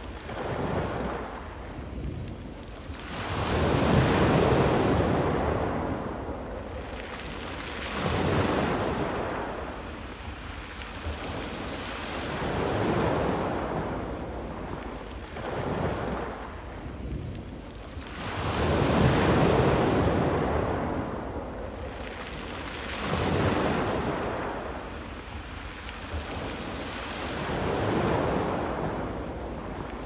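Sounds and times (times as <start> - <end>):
waves breaking on pebble beach: 0.0 - 30.0.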